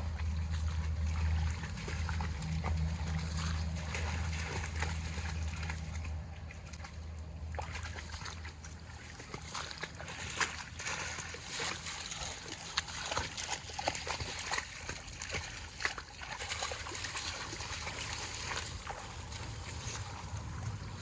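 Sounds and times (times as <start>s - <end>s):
steady low rumble: 0.0s - 13.1s, 14.8s - 21.0s
water splashing and sloshing: 0.0s - 21.0s.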